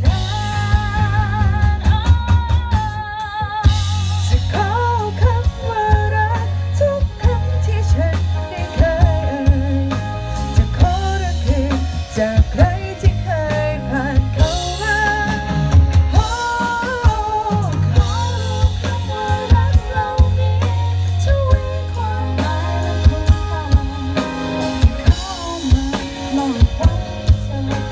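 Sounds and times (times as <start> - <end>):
live band playing: 0.0 - 27.9
person singing: 0.0 - 27.9.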